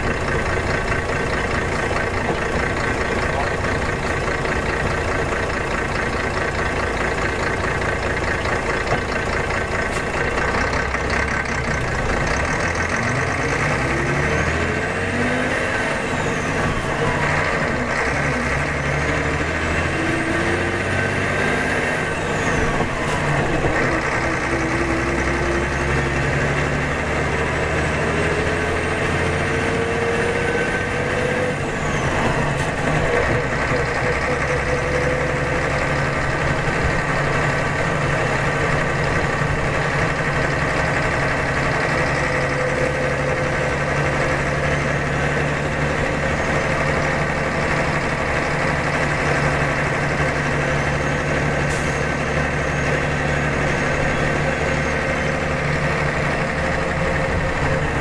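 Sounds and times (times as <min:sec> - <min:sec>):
coach diesel engine running: 0:00.0 - 0:58.0.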